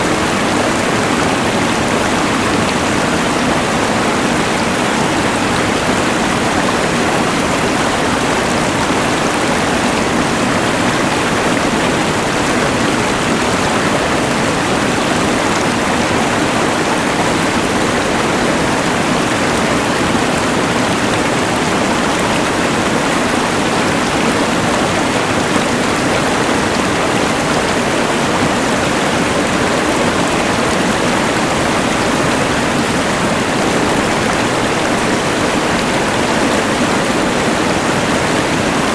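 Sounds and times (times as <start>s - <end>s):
mountain river rushing: 0.0s - 38.9s.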